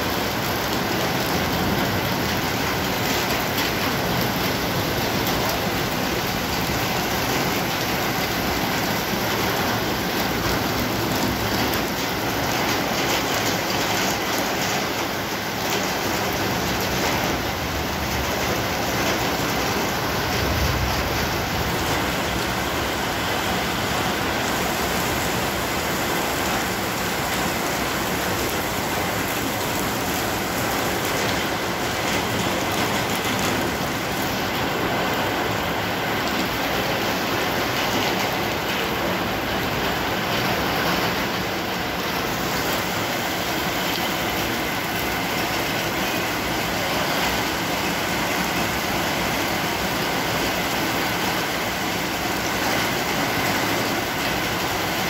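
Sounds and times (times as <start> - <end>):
heavy rain on street and cars: 0.0 - 55.0.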